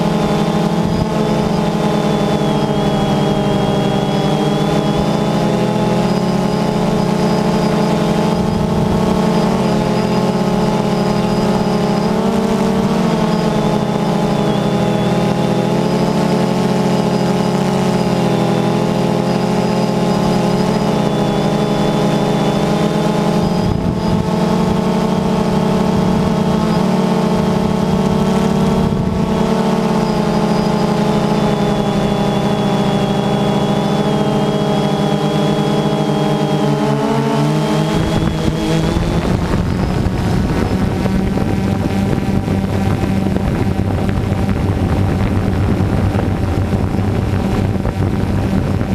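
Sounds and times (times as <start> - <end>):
drone propellers buzzing: 0.0 - 48.9.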